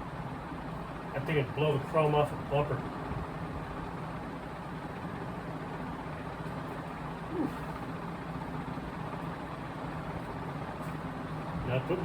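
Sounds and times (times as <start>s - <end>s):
ceiling fan air rush: 0.0s - 12.0s.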